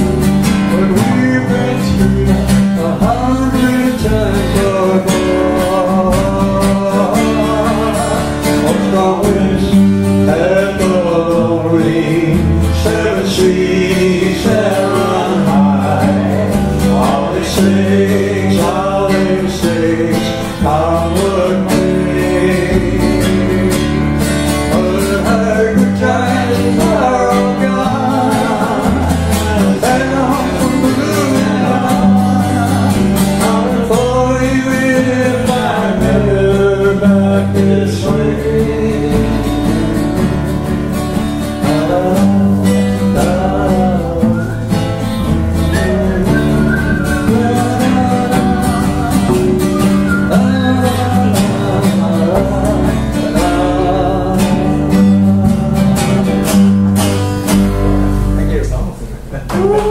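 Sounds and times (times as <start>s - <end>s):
person singing: 0.0s - 40.7s, 41.6s - 56.9s, 59.4s - 59.9s
acoustic guitars strumming: 0.0s - 59.9s.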